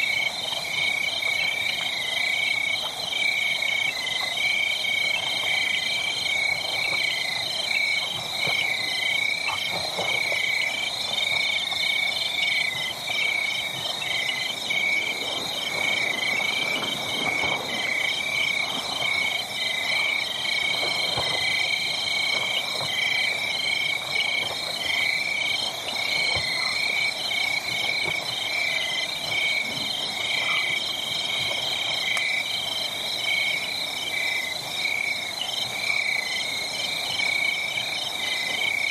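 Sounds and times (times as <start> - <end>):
wood fire crackling: 0.4 - 32.5.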